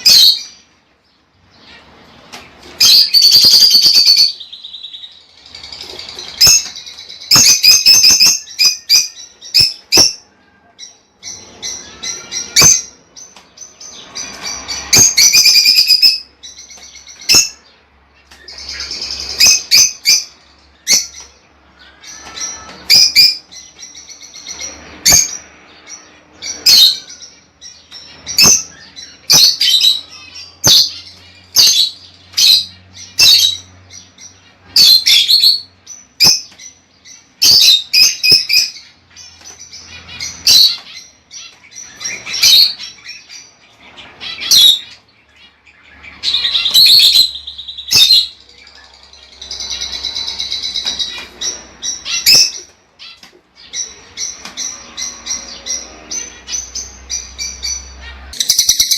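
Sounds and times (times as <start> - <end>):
lovebirds chirping: 0.0 - 58.9.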